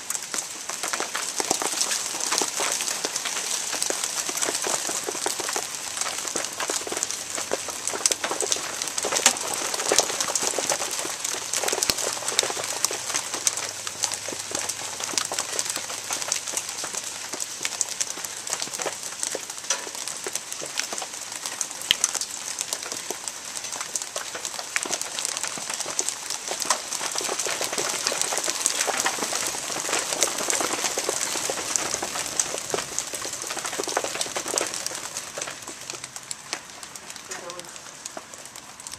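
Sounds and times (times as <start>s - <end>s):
hail striking hard surfaces: 0.0s - 38.9s.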